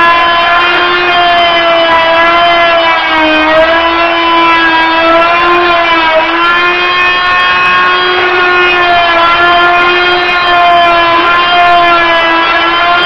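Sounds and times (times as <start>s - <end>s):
oscillating multi-tool buzzing: 0.0s - 13.0s.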